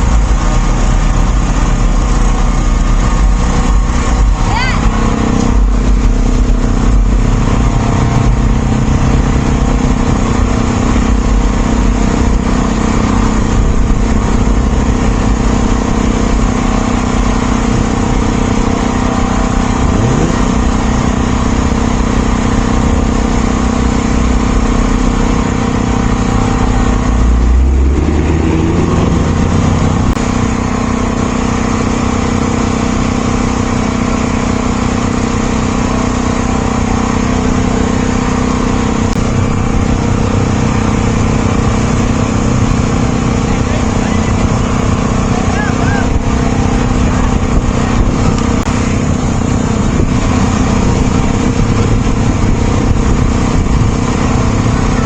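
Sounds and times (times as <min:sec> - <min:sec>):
road rumble: 0:00.0 - 0:55.0
vehicle engine running: 0:00.0 - 0:55.0.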